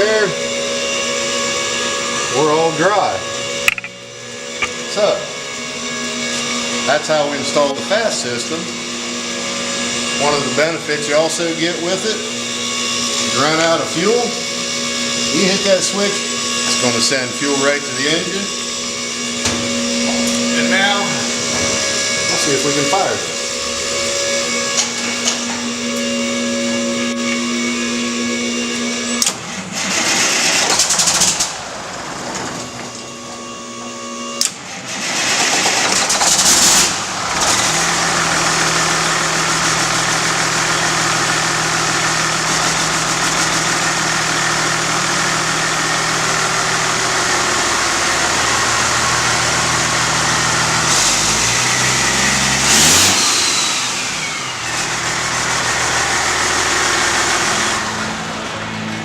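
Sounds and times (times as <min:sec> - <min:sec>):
diesel engine idling: 0:00.0 - 0:59.0
diesel truck engine cranking: 0:00.0 - 0:59.0.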